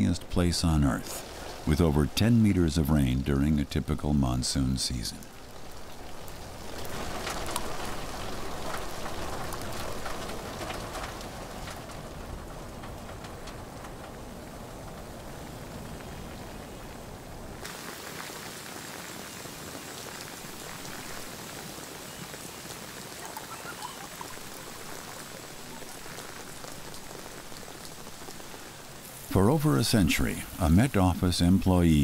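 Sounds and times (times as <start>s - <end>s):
steady rainfall: 0.0s - 32.0s.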